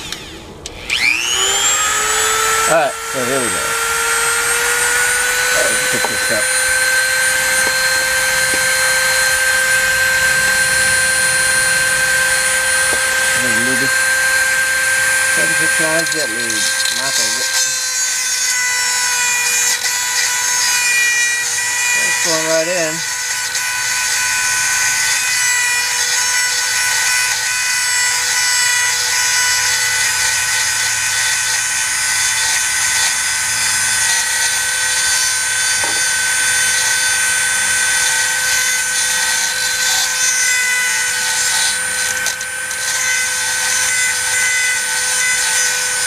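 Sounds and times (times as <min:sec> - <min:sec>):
rotary tool grinding whine: 0:00.0 - 0:46.0.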